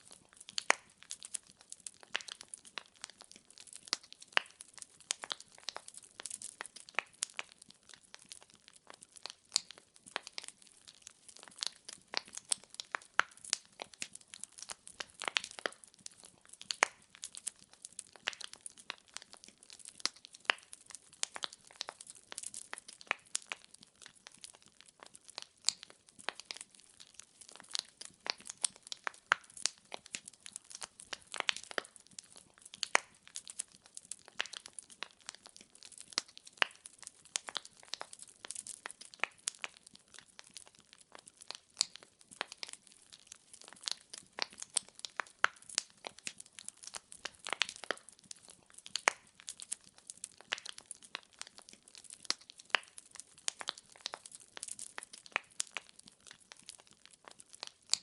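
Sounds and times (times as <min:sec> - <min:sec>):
burning firewood crackling: 0:00.0 - 0:58.0.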